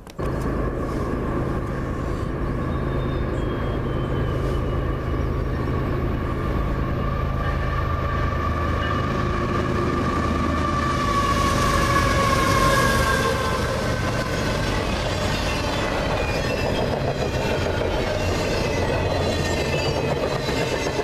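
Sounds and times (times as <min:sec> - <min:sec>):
diesel locomotive engine rumble: 0:00.0 - 0:21.0
high whine: 0:00.1 - 0:17.0.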